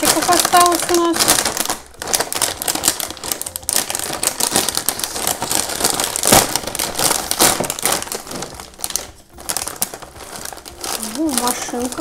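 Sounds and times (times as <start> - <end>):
snack bag crinkling and tearing: 0.0 - 12.0.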